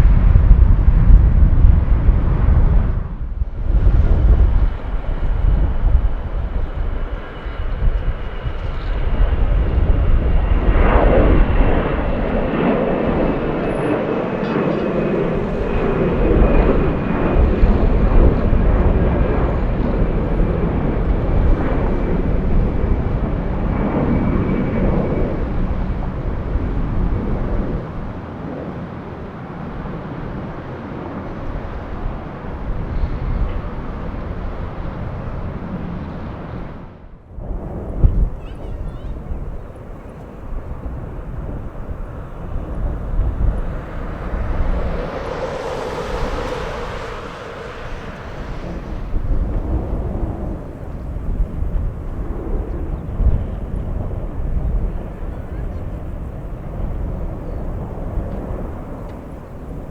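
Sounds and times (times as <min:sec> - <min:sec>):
wind on microphone: 0:00.0 - 0:28.0, 0:37.3 - 0:59.9
jet airliner passing: 0:00.0 - 0:33.5, 0:37.4 - 0:59.9.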